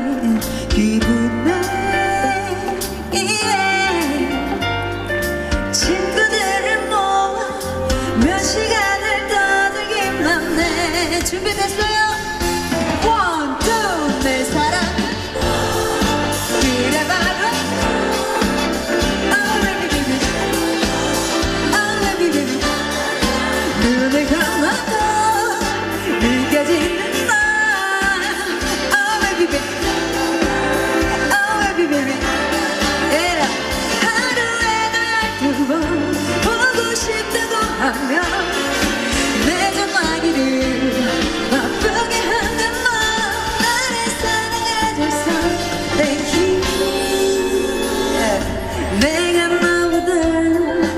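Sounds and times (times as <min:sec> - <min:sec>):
woman singing: 0:00.0 - 0:04.9, 0:05.7 - 0:50.9
dance-pop backing track with beat: 0:00.0 - 0:50.9.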